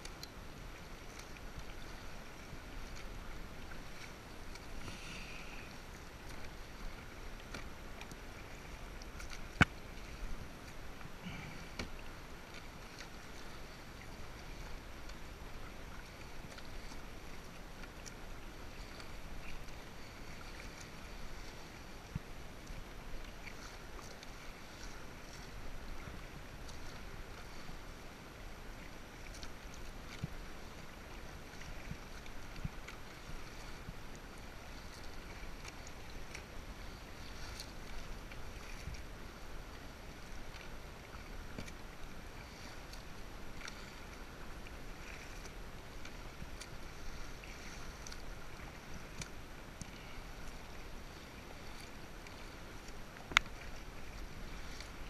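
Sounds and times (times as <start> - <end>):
paddle dipping through water: 0.0 - 55.0.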